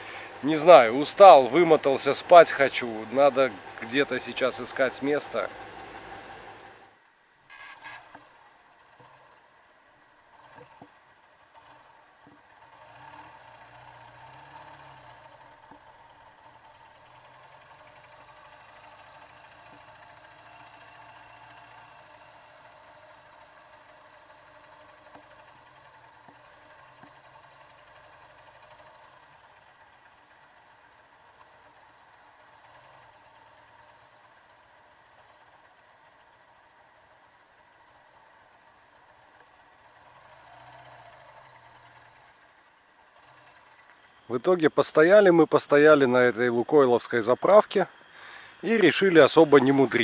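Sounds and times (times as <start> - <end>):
faint engine idling: 0.0 - 50.0.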